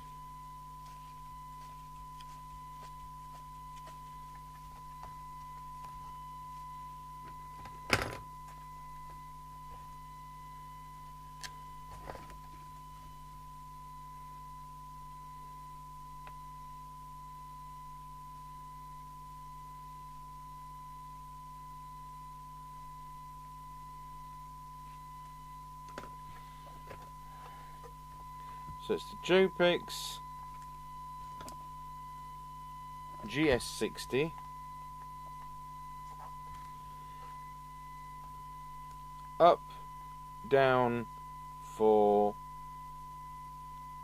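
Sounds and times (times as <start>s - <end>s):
low hum: 0.0s - 44.0s
steady radio test tone: 0.0s - 44.0s.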